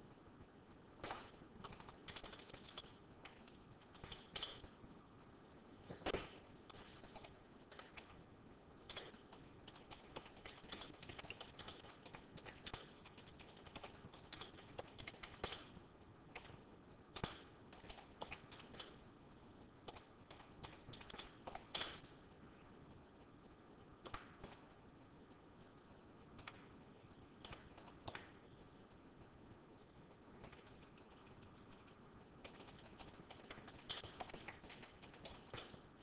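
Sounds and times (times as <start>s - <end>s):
steady hiss: 0.0s - 36.0s
irregular clicking and tapping: 0.9s - 4.8s, 5.9s - 8.2s, 8.8s - 22.2s, 23.3s - 36.0s.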